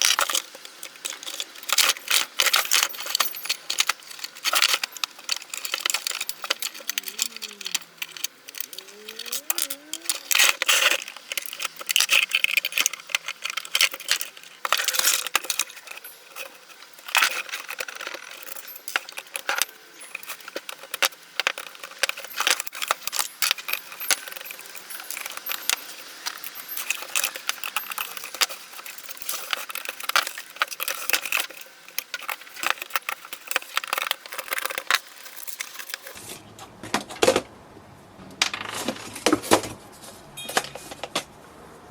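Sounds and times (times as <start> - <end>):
small parts and tools clicking: 0.0 - 36.2
creaking squeak: 1.0 - 36.1.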